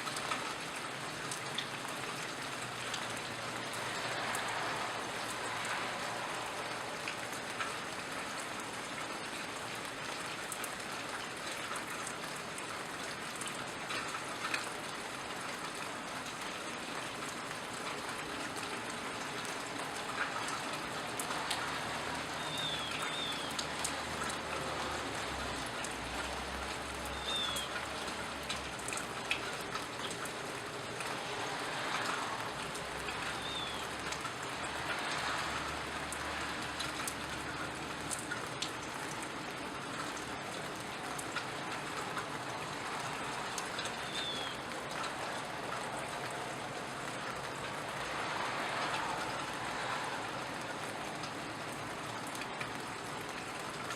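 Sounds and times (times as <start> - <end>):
rain falling: 0.0 - 53.9
drops dripping onto surfaces: 0.1 - 53.9.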